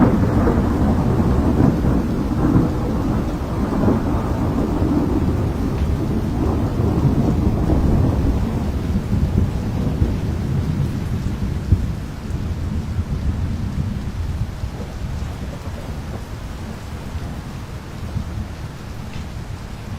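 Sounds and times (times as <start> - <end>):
rain: 0.0 - 19.9
storm rumble: 0.0 - 19.9.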